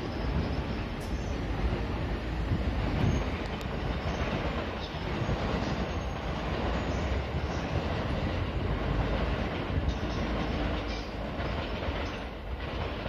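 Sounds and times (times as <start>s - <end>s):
train rumbling along tracks: 0.0s - 13.0s.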